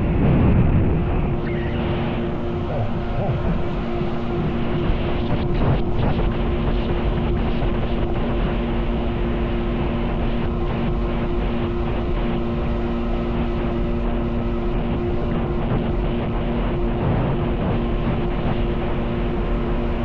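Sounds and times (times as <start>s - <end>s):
jet ski engine droning: 0.0s - 20.0s
rush of noise: 0.0s - 20.0s.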